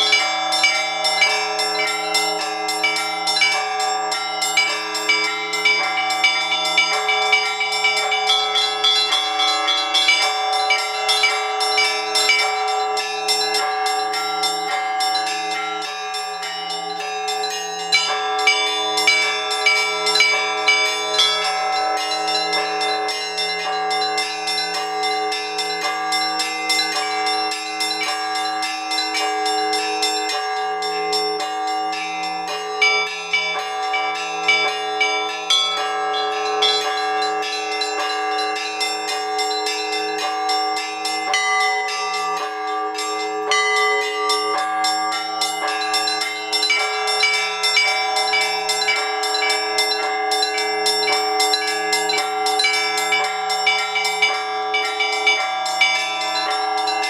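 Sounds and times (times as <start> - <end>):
hum of large bells: 0.0 - 57.0
small church bells striking: 0.0 - 57.0.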